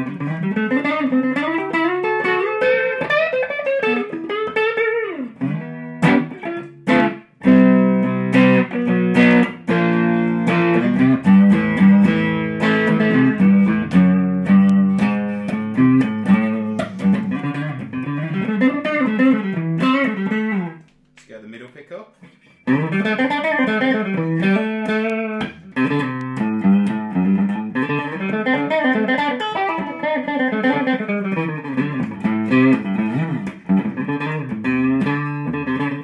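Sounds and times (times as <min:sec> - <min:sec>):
distorted electric guitar: 0:00.0 - 0:20.9, 0:22.2 - 0:36.0.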